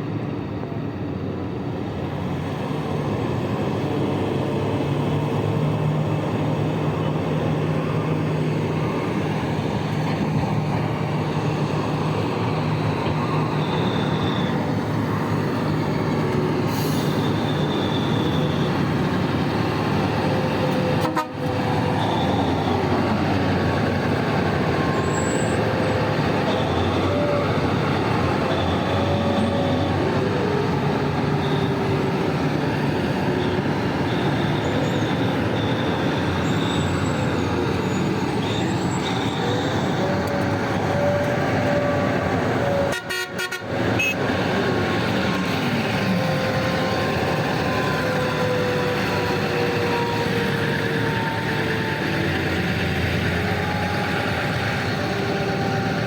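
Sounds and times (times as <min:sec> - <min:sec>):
diesel engines running under load: 0:00.0 - 0:56.0.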